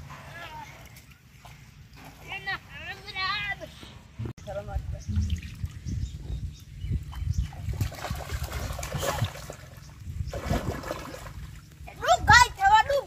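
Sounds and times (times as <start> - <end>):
floodwater splashing and sloshing: 0.0 - 3.5, 4.6 - 13.0.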